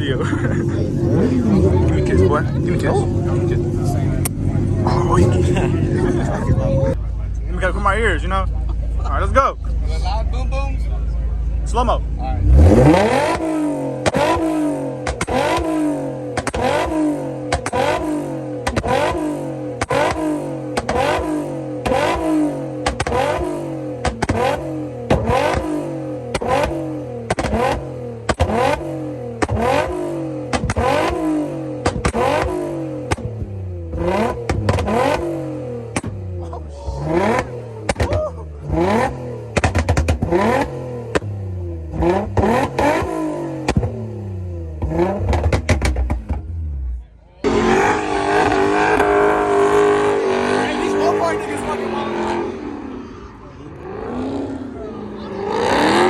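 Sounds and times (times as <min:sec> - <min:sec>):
car engine revving in blips: 0:00.0 - 0:07.0, 0:11.0 - 0:56.0
exhaust cracks: 0:00.0 - 0:56.0.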